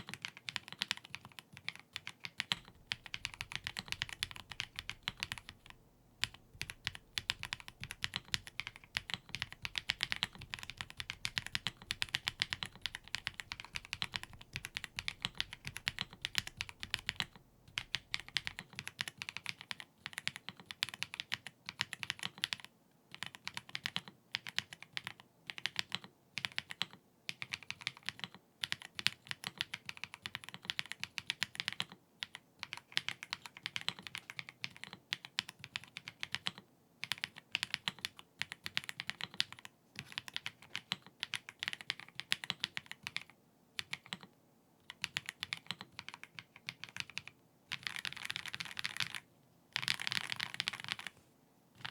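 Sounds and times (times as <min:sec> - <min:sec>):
mechanical keyboard typing: 0:00.0 - 0:51.2.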